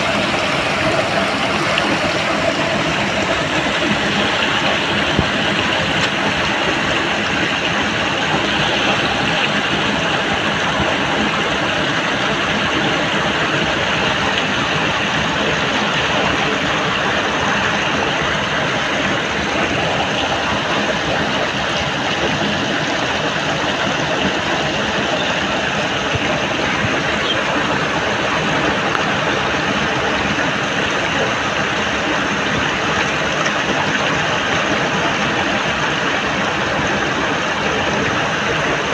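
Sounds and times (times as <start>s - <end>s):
muddy water splashing: 0.0s - 38.9s.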